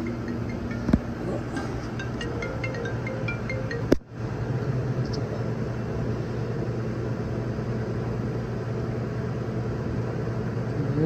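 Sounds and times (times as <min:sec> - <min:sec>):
refrigeration compressor humming: 0:00.0 - 0:11.0.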